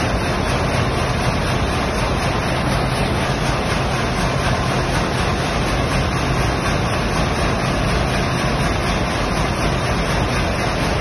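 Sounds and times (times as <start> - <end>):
ship diesel engine running: 0.0 - 11.0.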